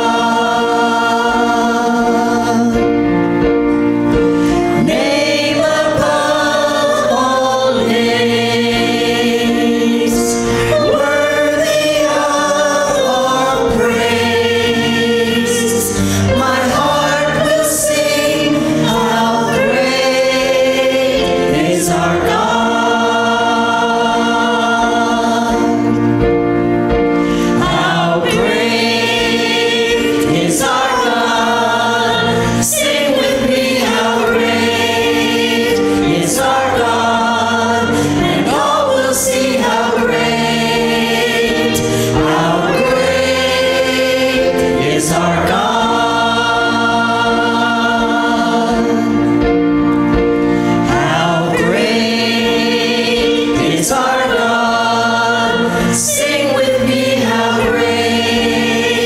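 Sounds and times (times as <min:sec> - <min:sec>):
church choir singing: 0:00.0 - 0:59.0
instrumental accompaniment: 0:00.0 - 0:59.0.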